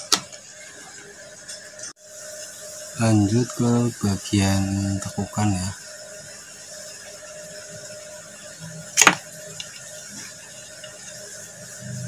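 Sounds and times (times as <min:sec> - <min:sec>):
faint hum and hiss: 0:00.0 - 0:12.0.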